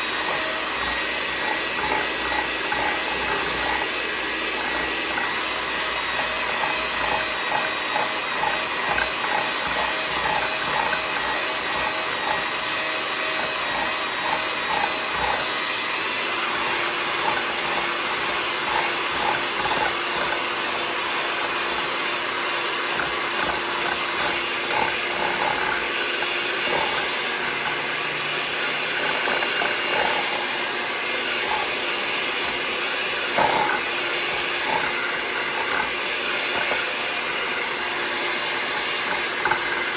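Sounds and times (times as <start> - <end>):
beaters clicking in bowl: 0.0 - 30.6, 33.3 - 39.9
electric hand mixer running: 0.0 - 39.9.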